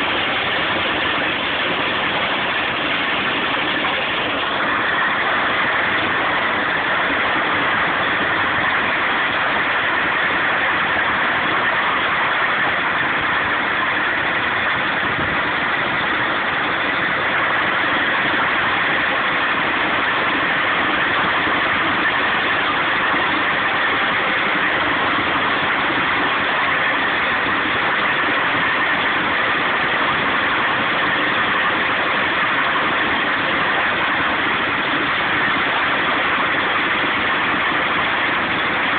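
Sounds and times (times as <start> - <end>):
branch chipper running: 0.0 - 38.9.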